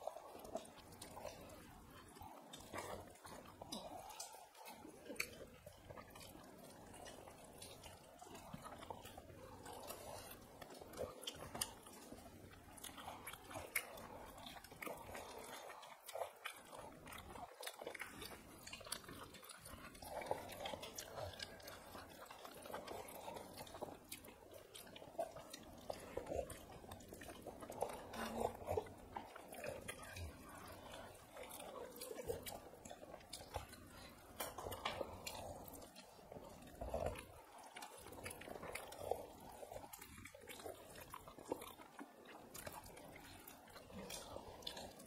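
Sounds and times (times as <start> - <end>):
people chewing food: 0.0 - 45.0.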